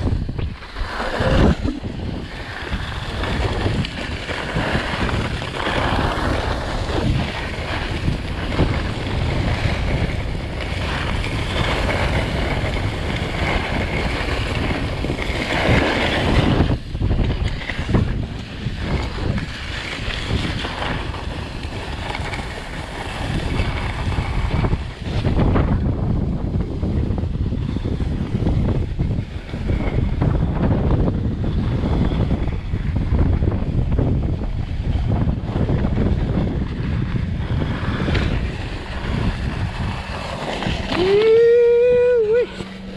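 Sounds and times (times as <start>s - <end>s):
skis scraping over snow: 0.0s - 42.9s
wind buffeting microphone: 0.0s - 42.9s.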